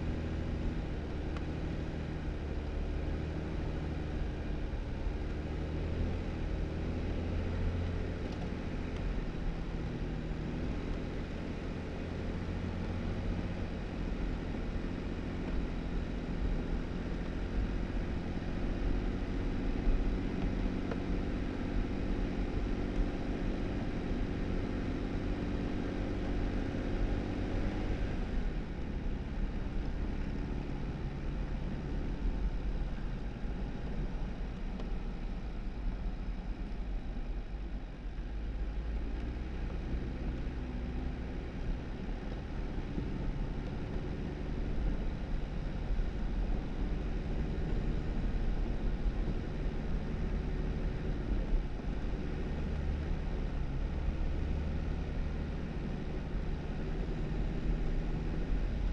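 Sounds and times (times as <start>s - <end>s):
car engine hum: 0.0s - 58.9s
tyre noise on dirt road: 0.0s - 58.9s.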